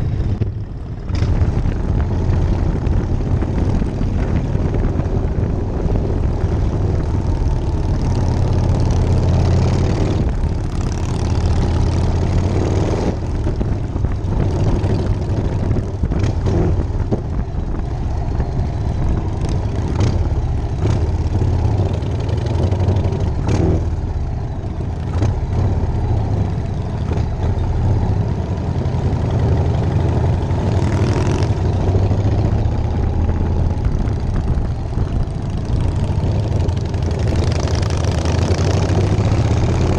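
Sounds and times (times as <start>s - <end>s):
motorcycle engine rumble: 0.0s - 39.9s
riding wind rush: 0.0s - 39.9s.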